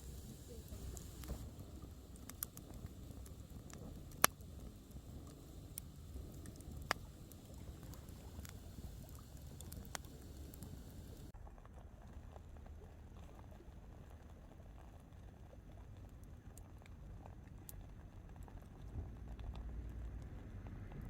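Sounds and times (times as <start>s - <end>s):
burning wood popping and crackling: 0.0s - 20.7s
campfire low rush: 0.0s - 21.0s.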